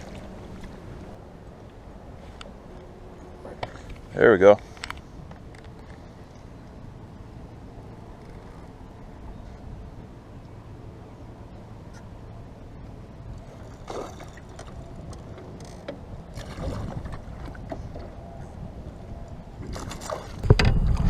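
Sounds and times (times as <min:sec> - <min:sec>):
small boat engine rumble: 0:00.0 - 0:21.0.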